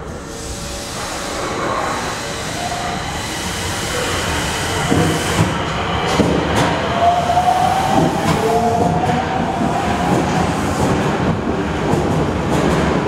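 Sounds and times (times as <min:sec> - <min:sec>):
traction motor whine: 0:00.0 - 0:10.6
electric train pulling out: 0:00.0 - 0:12.5.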